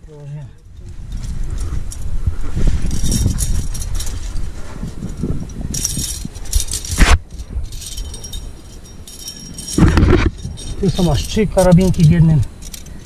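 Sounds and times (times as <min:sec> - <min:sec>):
climbing hardware clinking: 0:00.0 - 0:13.0.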